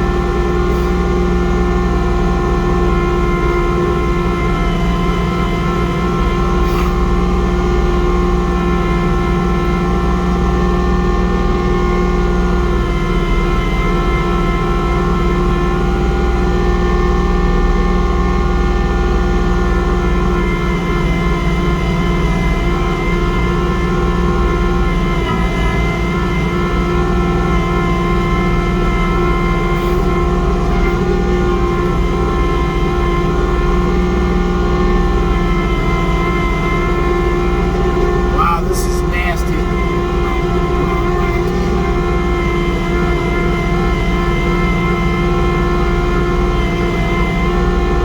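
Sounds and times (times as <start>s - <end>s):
diesel tractor engine rumble: 0.0s - 48.0s
snowblower whine: 0.0s - 48.0s.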